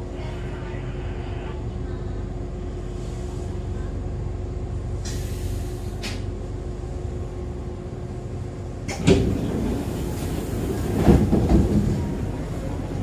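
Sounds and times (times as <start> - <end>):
train running rumble and hum: 0.0 - 13.0.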